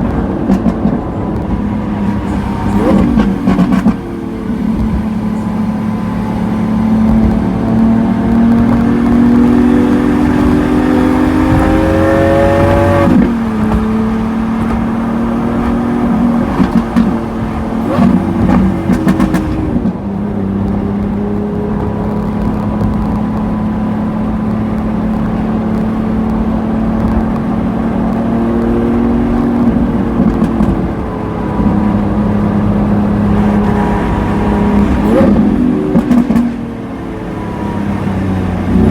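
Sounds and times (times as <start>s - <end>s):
exhaust crackles and pops: 0.0s - 38.9s
sports car engine revving: 0.0s - 38.9s.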